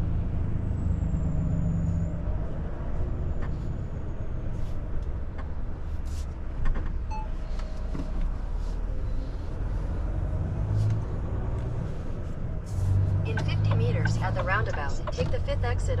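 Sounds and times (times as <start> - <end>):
road noise: 0.0 - 16.0
truck engine rumbling: 0.0 - 16.0.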